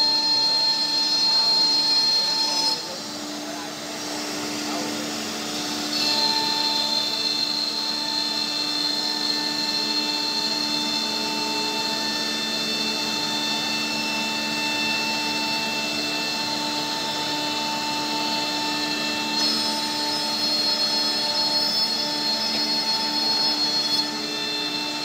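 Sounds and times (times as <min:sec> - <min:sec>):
router spindles whining: 0:00.0 - 0:25.0
rush of cutting and dust extraction: 0:00.0 - 0:25.0.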